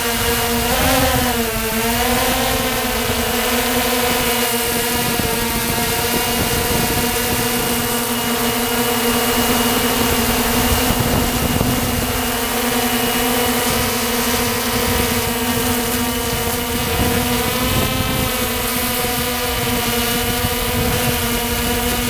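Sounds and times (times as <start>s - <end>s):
drone motors humming: 0.0s - 22.0s
wind over microphone: 0.0s - 22.0s.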